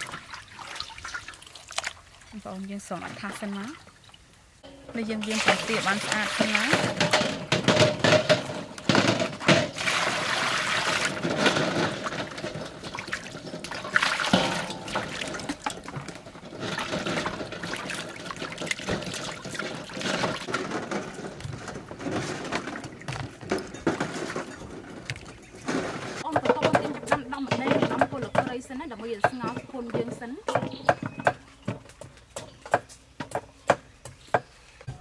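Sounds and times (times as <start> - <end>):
water sloshing in steel basin: 0.0 - 4.3, 4.9 - 32.1.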